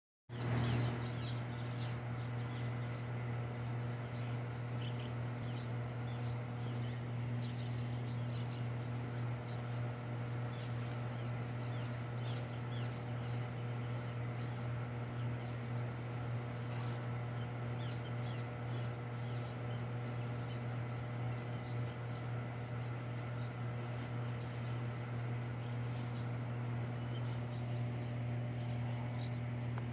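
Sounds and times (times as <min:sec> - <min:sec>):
low machinery hum: 0:00.3 - 0:29.9
swallows chirping: 0:00.3 - 0:29.9.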